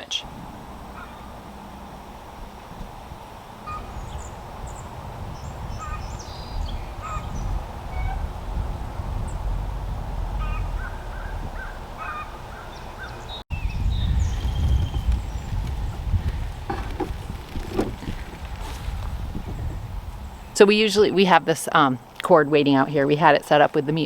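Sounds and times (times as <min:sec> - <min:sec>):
birds calling: 0:00.0 - 0:24.0
low rumble: 0:00.2 - 0:21.2.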